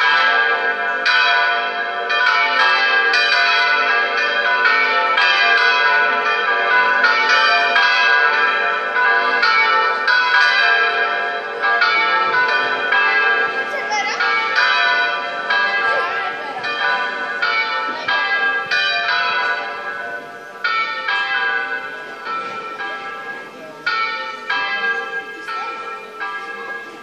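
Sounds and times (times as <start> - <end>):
electronic church bells pealing: 0.0 - 27.0.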